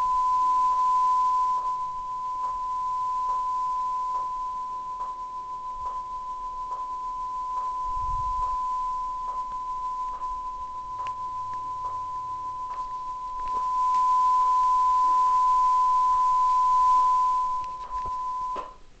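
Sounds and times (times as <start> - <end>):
steady electronic beep tone: 0.0 - 18.7.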